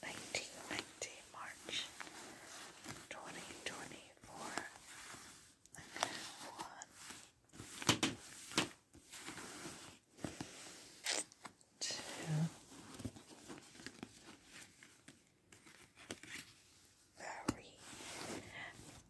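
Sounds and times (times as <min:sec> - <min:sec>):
paper cards swishing on bedspread: 0:00.1 - 0:19.0.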